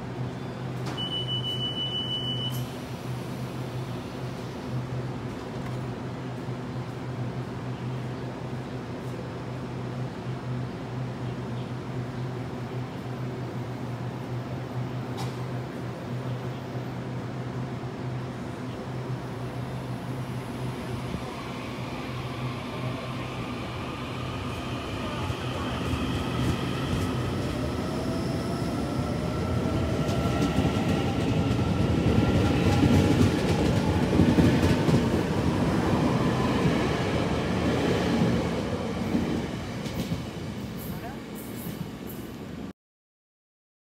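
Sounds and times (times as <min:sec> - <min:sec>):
train low hum: 0:00.0 - 0:42.7.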